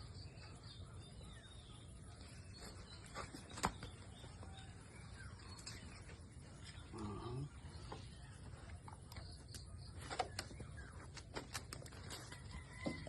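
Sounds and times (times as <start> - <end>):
faint chirps: 0.0 - 11.2.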